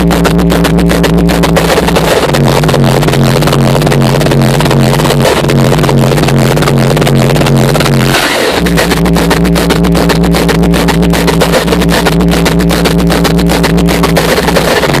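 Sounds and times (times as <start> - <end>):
hardstyle dance music: 0.0 - 15.0.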